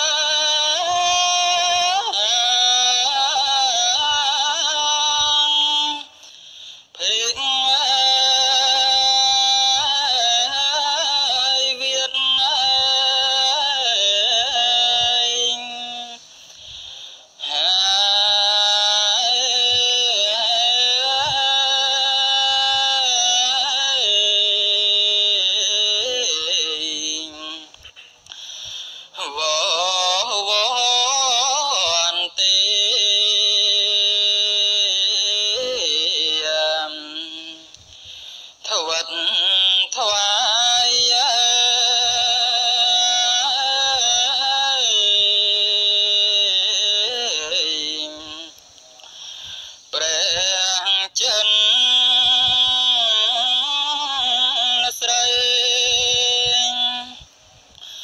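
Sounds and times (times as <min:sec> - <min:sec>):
amplified solo chant: 0:00.0 - 0:06.2, 0:07.0 - 0:27.9, 0:29.1 - 0:37.7, 0:38.6 - 0:48.6, 0:49.8 - 0:58.0.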